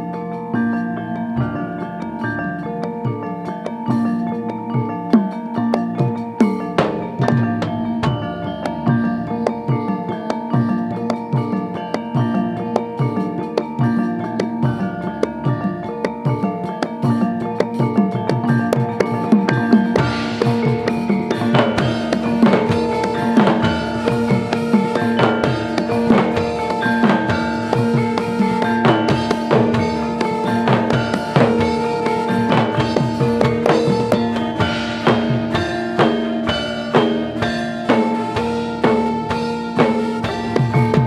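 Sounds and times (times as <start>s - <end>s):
ringing metal gong tones: 0.0s - 41.0s.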